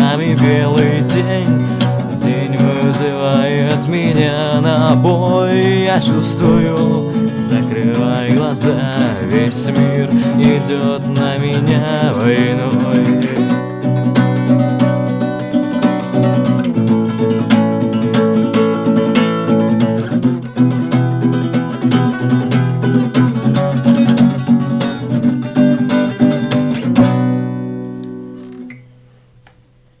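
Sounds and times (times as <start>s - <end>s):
acoustic guitar strumming: 0.0s - 29.2s.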